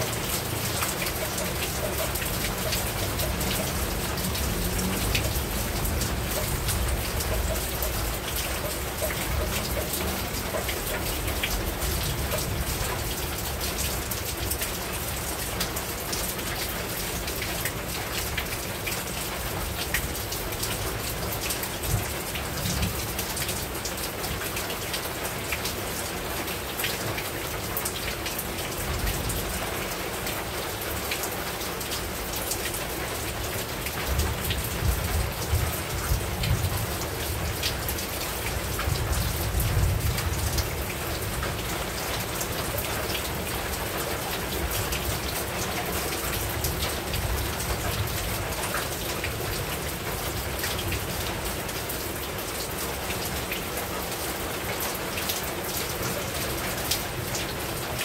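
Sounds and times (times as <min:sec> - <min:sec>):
heavy rain on a rooftop: 0:00.0 - 0:58.0.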